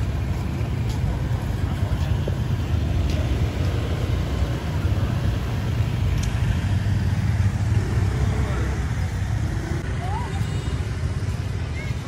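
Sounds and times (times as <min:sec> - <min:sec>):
motor scooters engine rumble: 0:00.0 - 0:12.0.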